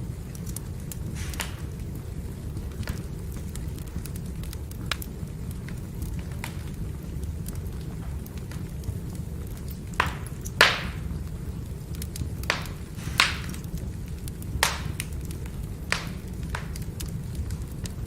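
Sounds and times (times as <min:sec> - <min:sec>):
firewood crackles and pops: 0:00.0 - 0:18.0
wood fire rumbling: 0:00.0 - 0:18.0.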